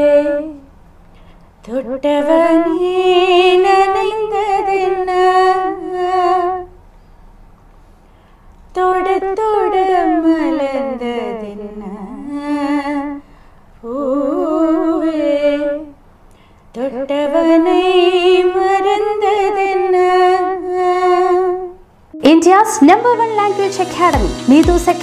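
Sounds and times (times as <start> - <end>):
woman singing unaccompanied: 0.0 - 0.7, 1.6 - 6.8, 8.7 - 13.2, 13.8 - 16.0, 16.7 - 25.0.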